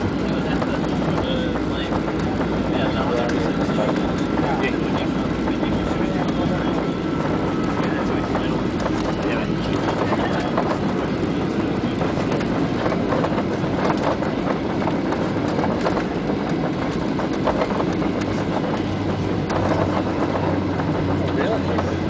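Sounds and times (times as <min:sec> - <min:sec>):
jet engine and air rush: 0:00.0 - 0:22.0
wheels rumbling on runway: 0:00.0 - 0:22.0.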